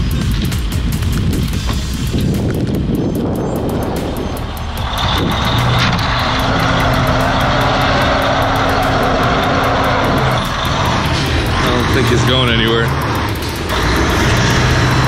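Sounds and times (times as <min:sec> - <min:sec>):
steady whine: 0:00.0 - 0:15.0
vehicle engines working under load: 0:00.0 - 0:15.0.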